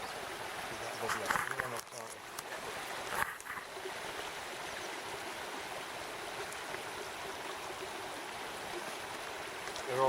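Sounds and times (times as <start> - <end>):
river water running over stones: 0.0 - 10.0.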